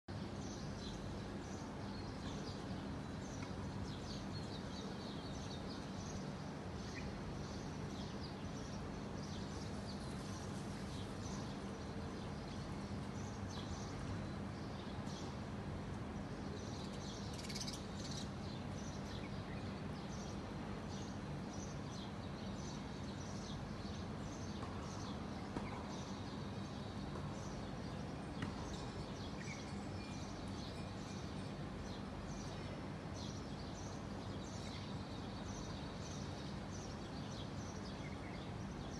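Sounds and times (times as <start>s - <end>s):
small birds chirping: 0.1s - 38.9s
steady low background hum: 0.1s - 38.9s.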